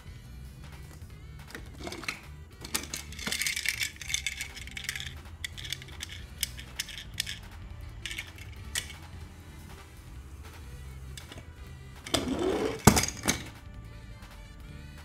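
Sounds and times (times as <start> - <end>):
toy cars clattering: 0.7 - 13.6.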